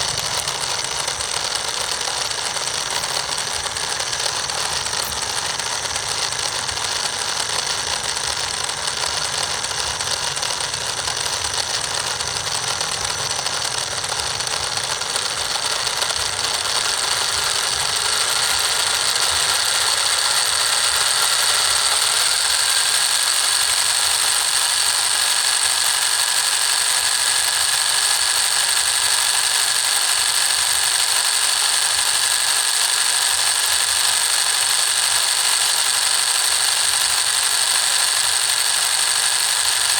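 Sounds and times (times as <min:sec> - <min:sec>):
small motor whining: 0:00.0 - 0:39.9.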